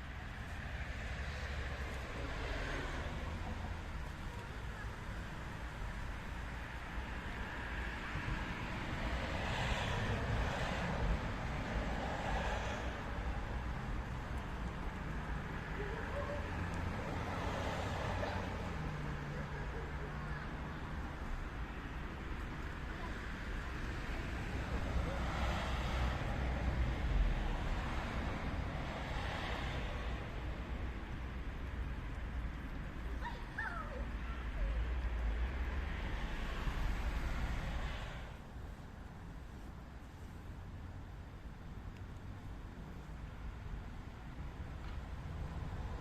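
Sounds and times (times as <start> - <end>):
vehicle passing: 0.0 - 38.5
street traffic rumble: 0.0 - 46.0.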